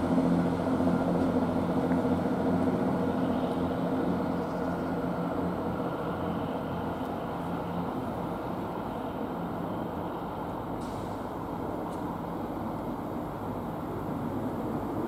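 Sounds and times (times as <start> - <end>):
approaching train: 0.0 - 15.0
diesel train engines humming: 0.0 - 15.0
rail noise: 0.0 - 15.0.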